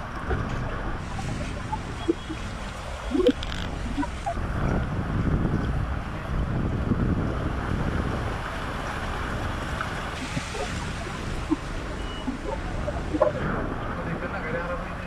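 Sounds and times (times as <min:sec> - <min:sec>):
steady rushing noise: 0:00.0 - 0:15.0
wind buffeting microphone: 0:00.0 - 0:15.0.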